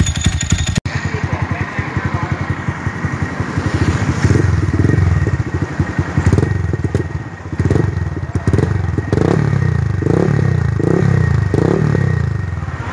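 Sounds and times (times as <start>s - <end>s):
motorcycle engine idling and revving: 0.0s - 12.9s.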